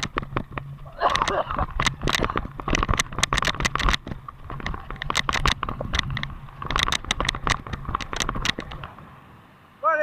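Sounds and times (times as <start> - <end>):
mountain bike rattling and clicking: 0.0 - 9.1.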